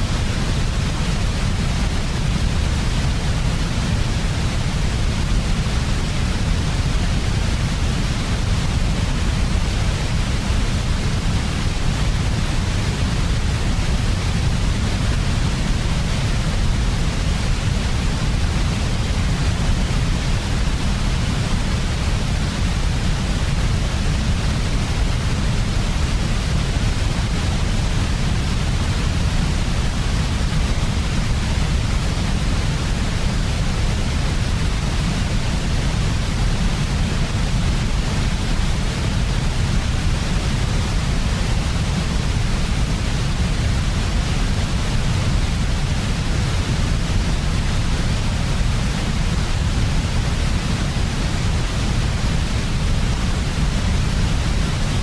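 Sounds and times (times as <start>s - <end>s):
steady electronic white noise: 0.0s - 55.0s.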